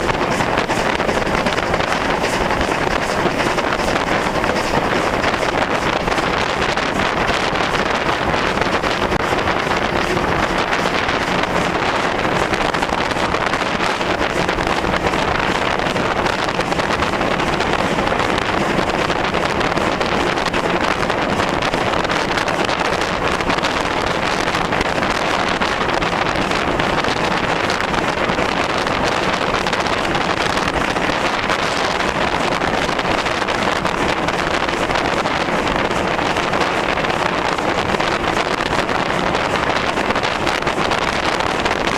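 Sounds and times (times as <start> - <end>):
steam locomotive running: 0.0 - 41.9
wind buffeting microphone: 0.0 - 41.9.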